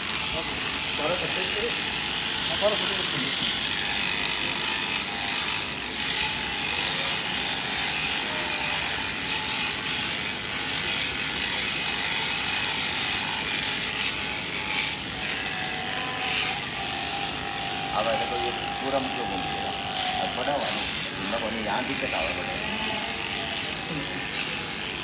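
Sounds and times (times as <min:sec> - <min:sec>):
sheep shears buzzing: 0:00.0 - 0:25.0.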